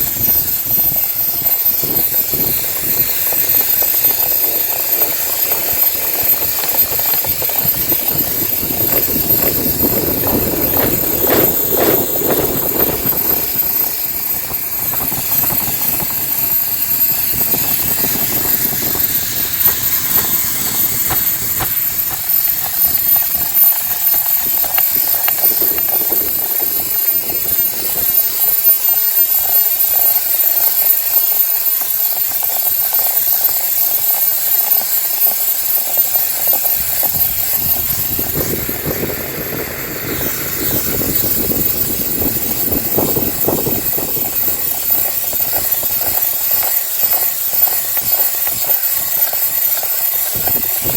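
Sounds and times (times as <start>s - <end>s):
hair dryer running: 0.0s - 30.0s, 32.3s - 50.9s.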